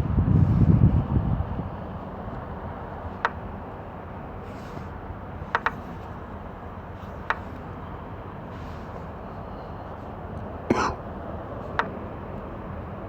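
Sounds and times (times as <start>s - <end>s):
background rumble and hiss: 0.1s - 13.0s.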